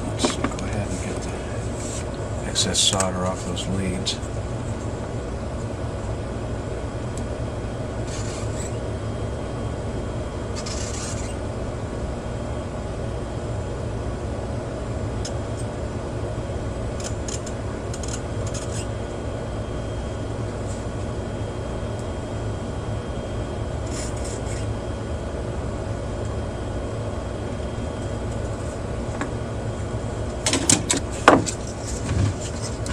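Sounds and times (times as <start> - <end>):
low hum: 0.0 - 32.9.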